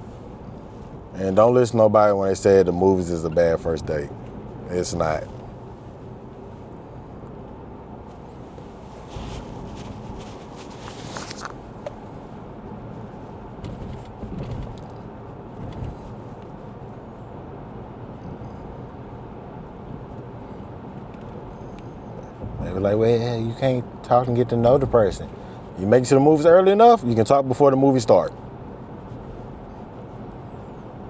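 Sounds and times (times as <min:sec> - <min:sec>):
tyre and engine rumble: 0:00.0 - 0:31.0.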